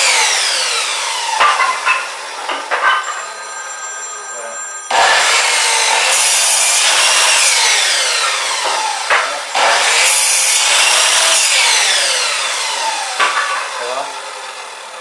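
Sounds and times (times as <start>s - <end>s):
chop saw cutting wood: 0.0s - 3.4s, 4.9s - 15.0s
saw motor winding down: 0.0s - 15.0s.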